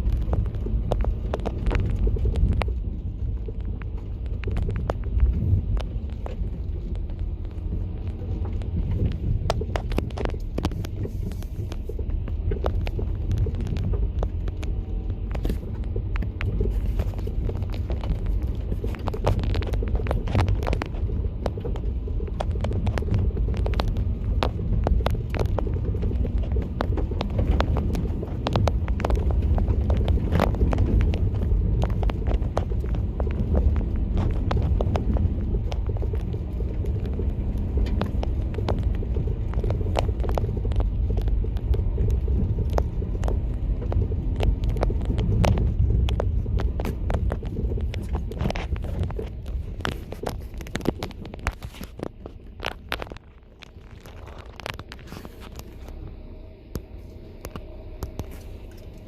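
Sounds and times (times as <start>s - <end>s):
engine and tyres rumbling: 0.0s - 59.0s
sharp knocks and clicks: 0.0s - 59.0s.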